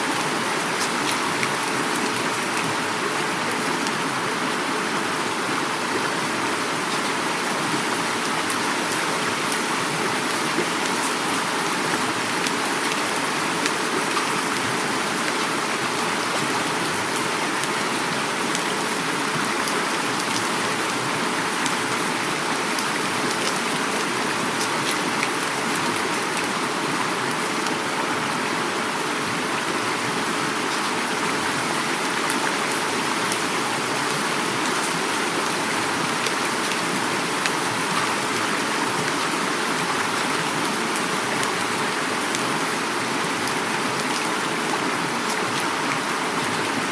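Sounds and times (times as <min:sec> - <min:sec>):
heavy rain falling: 0:00.0 - 0:46.9
river flowing: 0:00.0 - 0:46.9.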